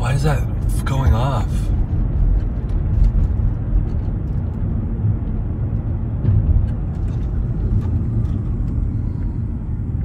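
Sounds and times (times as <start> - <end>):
distant jet airliner rumble: 0.5 - 10.0.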